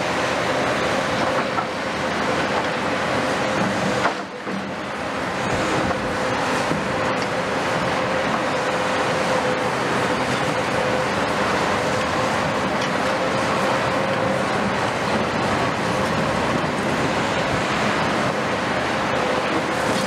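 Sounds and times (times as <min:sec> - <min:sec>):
excavator engines and hydraulics: 0:00.0 - 0:20.0
steady machine whine: 0:00.0 - 0:20.0.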